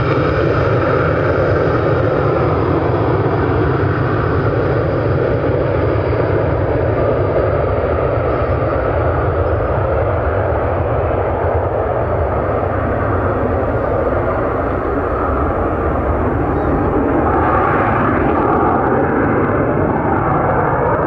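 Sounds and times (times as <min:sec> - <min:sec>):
jet engines at take-off: 0:00.0 - 0:21.0.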